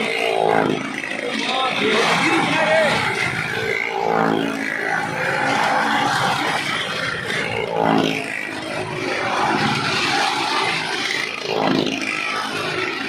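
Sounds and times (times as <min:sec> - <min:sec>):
vehicle engines running hard: 0:00.0 - 0:13.0.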